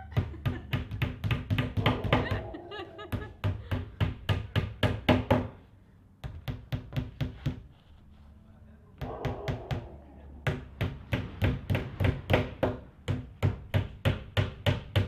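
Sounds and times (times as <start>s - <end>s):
hammers tapping nails: 0.0s - 2.3s, 3.2s - 5.6s, 6.2s - 7.7s, 9.0s - 15.0s.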